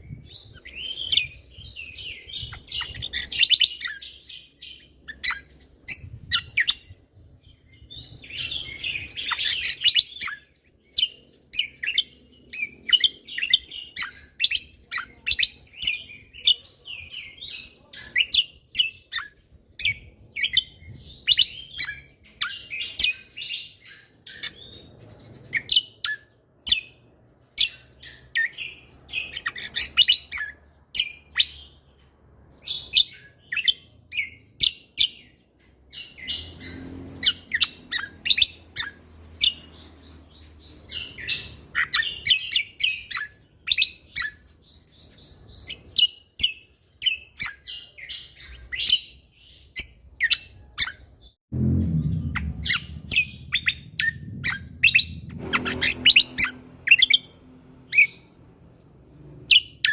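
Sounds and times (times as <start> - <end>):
songbird chirping and whistling: 0.0 - 31.9, 32.6 - 58.3, 59.5 - 59.9.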